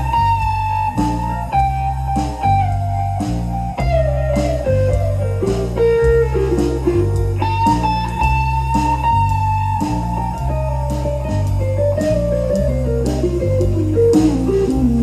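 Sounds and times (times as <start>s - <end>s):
bass guitar line: 0.0s - 15.0s
drum beat: 0.0s - 15.0s
electric guitar sliding notes: 0.0s - 15.0s.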